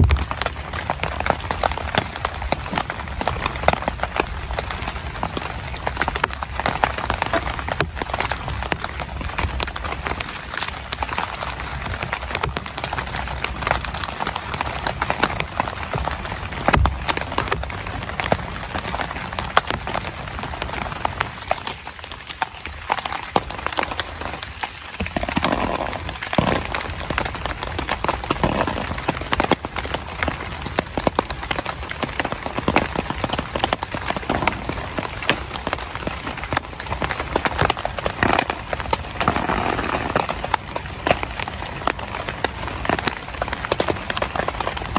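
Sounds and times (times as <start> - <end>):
rain on a tent: 0.0 - 44.9.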